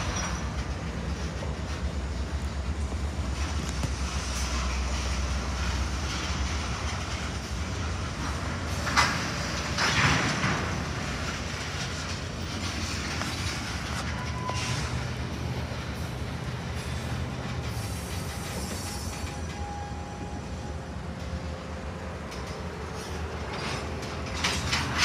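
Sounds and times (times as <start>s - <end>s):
diesel locomotive idling: 0.0s - 25.0s.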